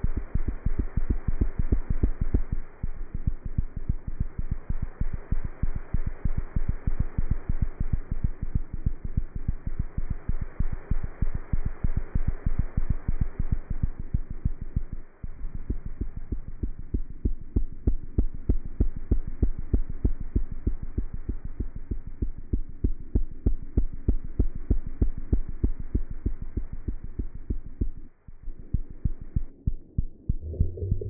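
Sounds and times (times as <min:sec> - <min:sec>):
cat heartbeat thumps: 0:00.0 - 0:31.0
faint steady hum: 0:00.0 - 0:31.0.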